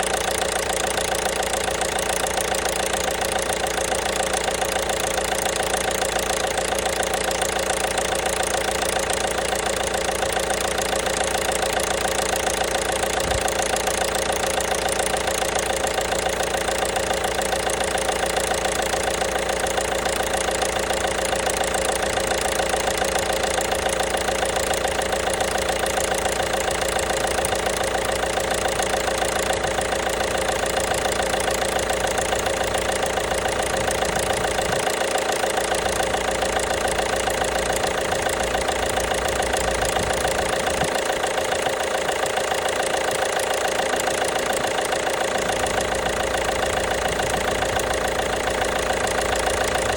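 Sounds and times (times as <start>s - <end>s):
diesel engine idling with knocking: 0.0s - 49.9s.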